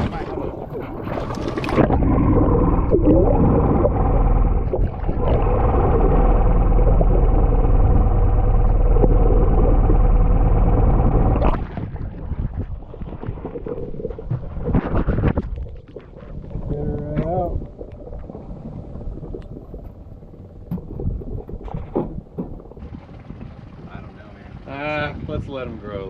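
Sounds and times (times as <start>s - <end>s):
boat motor running: 0.0s - 15.3s, 16.6s - 26.0s.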